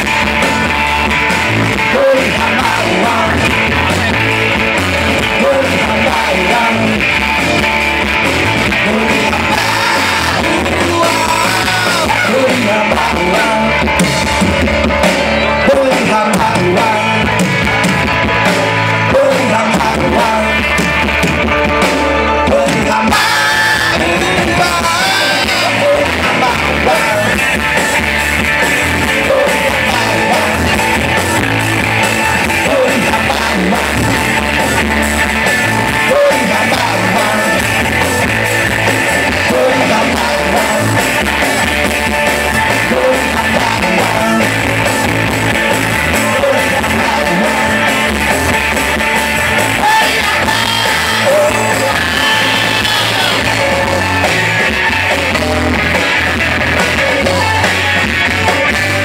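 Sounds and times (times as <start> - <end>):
person singing: 0.0 - 7.6, 8.2 - 28.2, 28.8 - 59.0
live rock band playing: 0.0 - 59.0.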